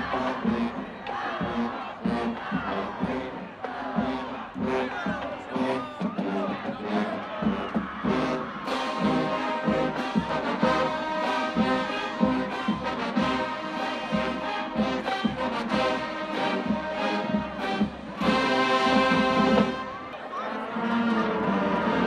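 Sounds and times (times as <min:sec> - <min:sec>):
steady drum beat: 0:00.0 - 0:19.9
marching band brass: 0:00.0 - 0:22.0.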